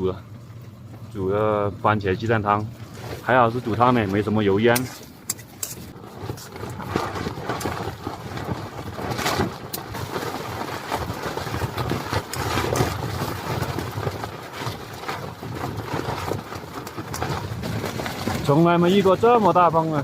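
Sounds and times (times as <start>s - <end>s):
gusting wind buffeting tent: 0.0s - 20.0s
tent fabric flapping: 2.2s - 20.0s.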